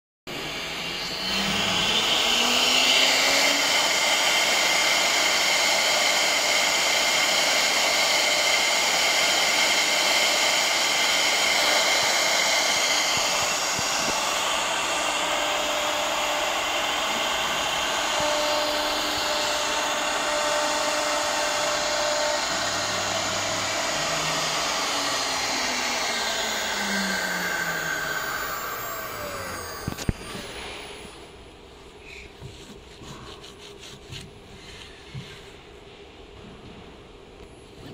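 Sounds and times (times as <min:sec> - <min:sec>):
router spindle whining: 0:00.3 - 0:31.4.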